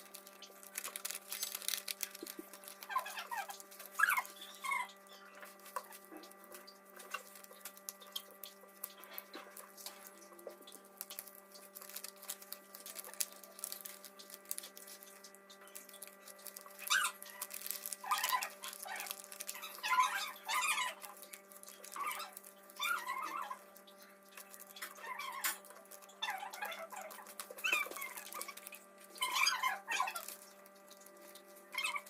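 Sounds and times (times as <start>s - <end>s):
paper crackling and rustling: 0.0s - 4.8s, 5.4s - 32.0s.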